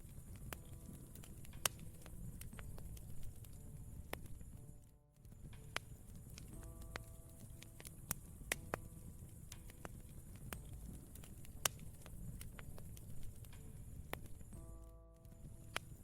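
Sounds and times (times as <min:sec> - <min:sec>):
campfire crackling and popping: 0:00.0 - 0:14.7
low rumble of fire: 0:00.0 - 0:14.7.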